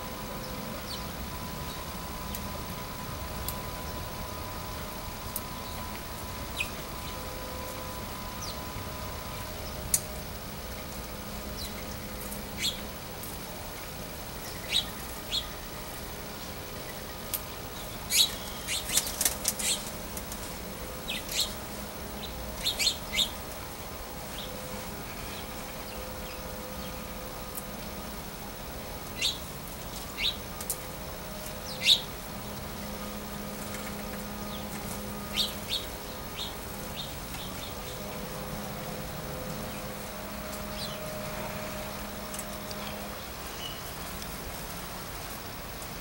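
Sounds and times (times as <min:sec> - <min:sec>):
faint steady hum: 0:00.0 - 0:46.0
small birds chirping: 0:00.3 - 0:02.5, 0:05.3 - 0:27.6, 0:29.0 - 0:38.4, 0:39.3 - 0:41.2, 0:41.8 - 0:44.1.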